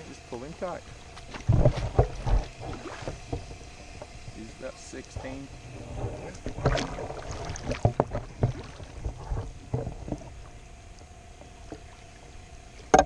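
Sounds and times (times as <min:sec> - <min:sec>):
pond water splashing: 0:00.0 - 0:13.0.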